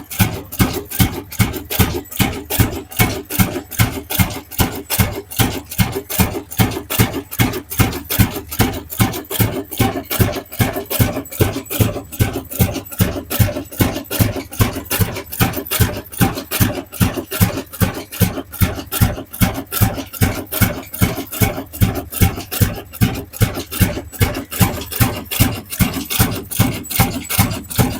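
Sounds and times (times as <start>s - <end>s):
old diesel engine running: 0.0s - 27.9s.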